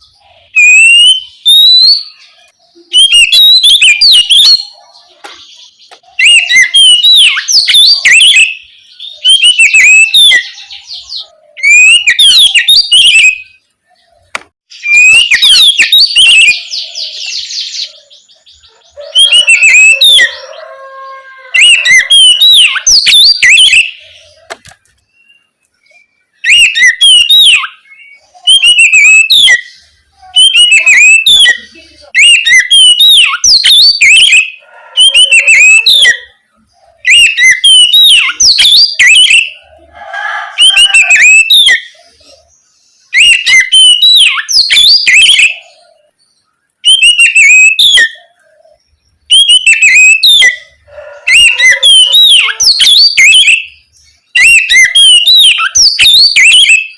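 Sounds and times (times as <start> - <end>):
bird singing rapid whistles: 0.0 - 13.6, 14.7 - 20.6, 21.6 - 24.4, 25.1 - 36.3, 37.0 - 39.6, 40.4 - 42.2, 43.0 - 45.8, 46.8 - 56.9.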